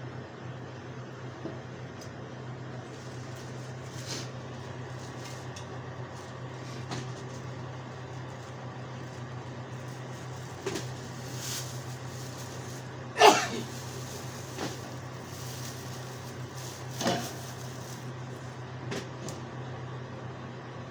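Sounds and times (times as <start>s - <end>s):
low machine hum: 0.0s - 20.9s.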